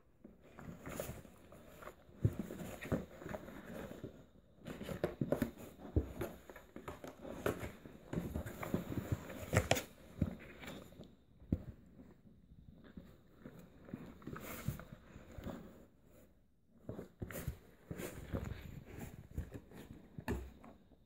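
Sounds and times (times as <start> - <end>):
scratching and scuffling on cardboard: 0.4 - 20.9.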